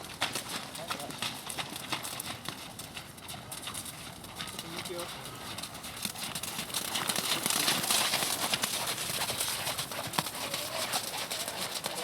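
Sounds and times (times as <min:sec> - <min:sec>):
horse hoofbeats: 0:00.0 - 0:12.0.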